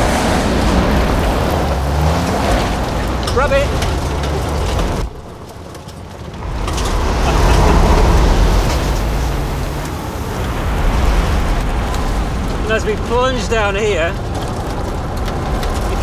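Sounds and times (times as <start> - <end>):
engine driven hard: 0.0 - 16.0.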